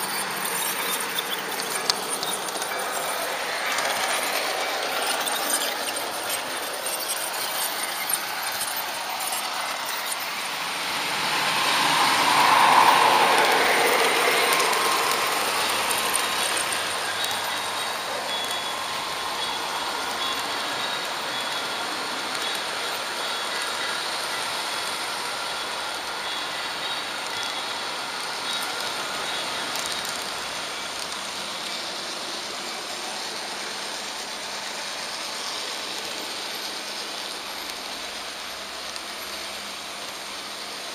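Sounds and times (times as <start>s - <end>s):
model train wheels on rails: 0.0s - 40.9s.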